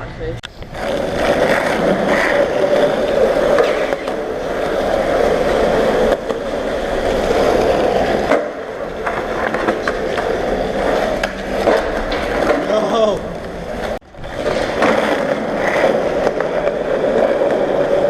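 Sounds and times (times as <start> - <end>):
skateboard clack: 0.4 - 18.0
skateboard wheels rolling: 0.4 - 18.0.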